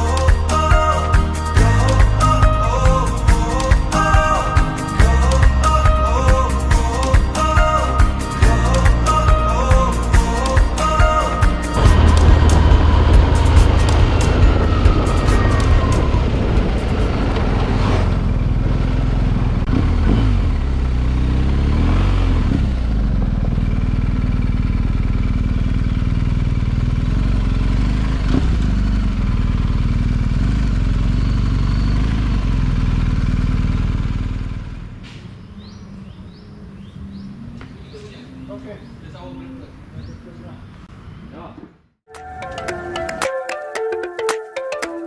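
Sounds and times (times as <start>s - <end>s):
motorcycle engine revving: 0.0s - 36.3s.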